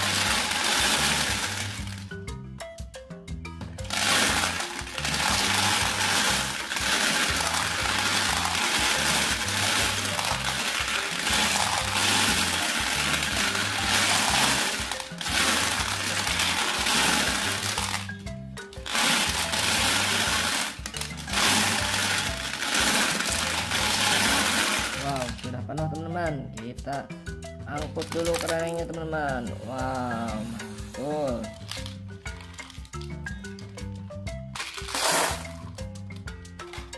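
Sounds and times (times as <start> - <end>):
glass marbles clattering: 0.0 - 2.1, 3.8 - 25.6, 27.7 - 33.9, 34.5 - 36.9
background music with bass: 0.0 - 36.9.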